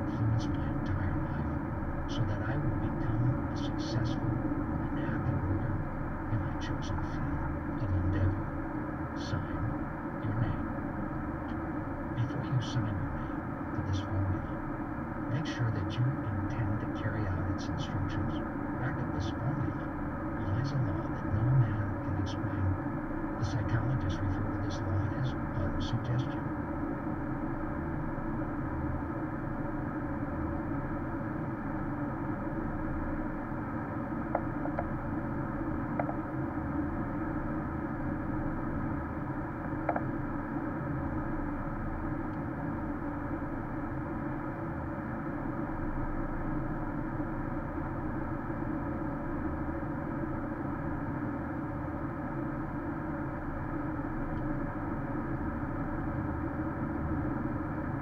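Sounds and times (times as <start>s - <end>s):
in-cabin road and engine noise: 0.0s - 58.0s.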